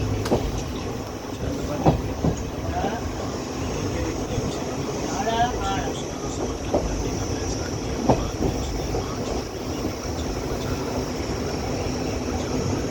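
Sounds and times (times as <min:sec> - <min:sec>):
moving vehicle rumble and hiss: 0:00.0 - 0:12.9.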